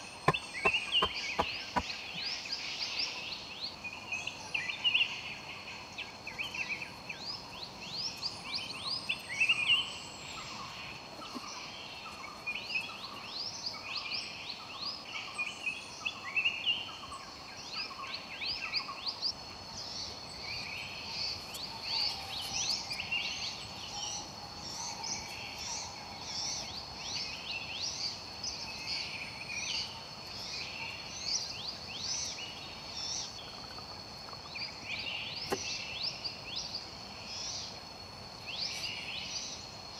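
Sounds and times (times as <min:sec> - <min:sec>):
birds chirping: 0:00.0 - 0:37.8
insects droning: 0:00.0 - 0:39.9.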